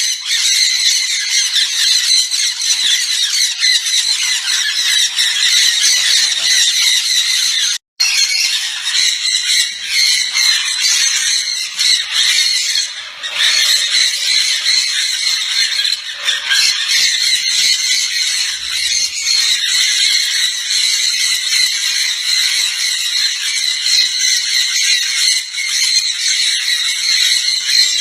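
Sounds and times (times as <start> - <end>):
parrots screeching and squawking: 0.0 - 28.0.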